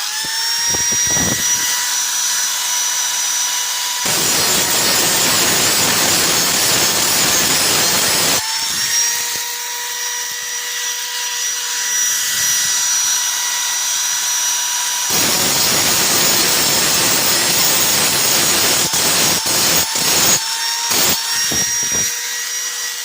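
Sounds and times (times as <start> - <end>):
power tool grinding steel blade: 0.0 - 23.0.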